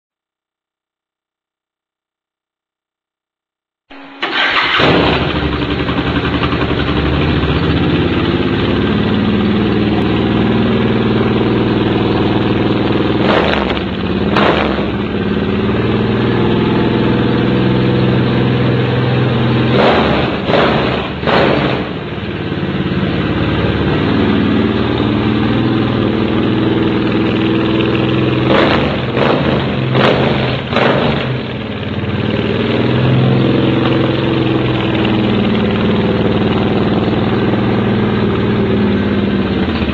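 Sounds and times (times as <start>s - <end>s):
motorcycle engine idling: 4.2s - 39.9s
motorcycle throttle revs: 4.6s - 39.9s.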